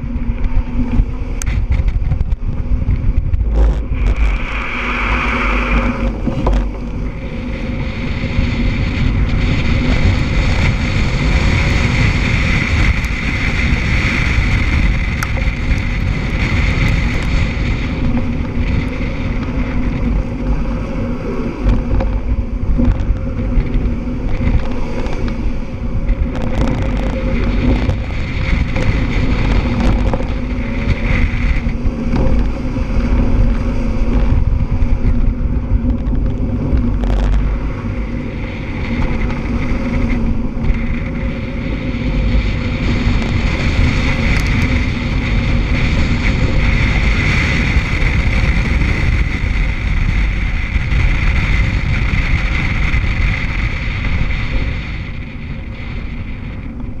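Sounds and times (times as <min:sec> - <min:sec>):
car engine driven hard: 0:00.0 - 0:57.0
wind buffeting on microphone: 0:00.0 - 0:57.0.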